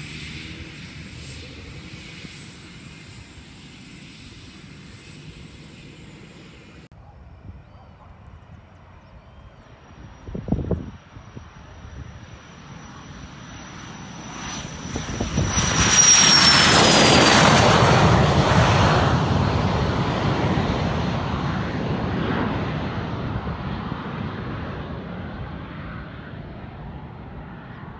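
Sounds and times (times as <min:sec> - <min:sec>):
jet engines whining and rumbling: 0:00.0 - 0:27.9.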